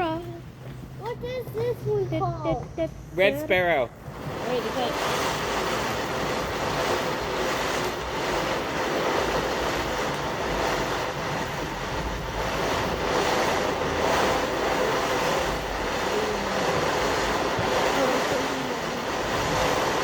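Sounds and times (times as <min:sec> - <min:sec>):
firework fountain hissing: 0:00.0 - 0:20.0
wind rumble on microphone: 0:00.0 - 0:20.0.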